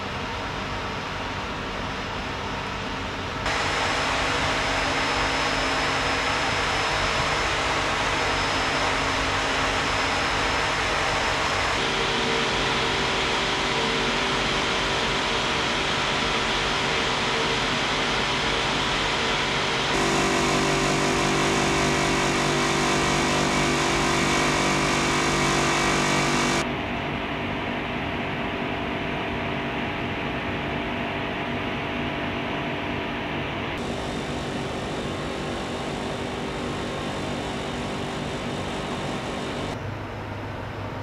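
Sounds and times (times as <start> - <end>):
refrigeration machinery hum: 0.0 - 41.0.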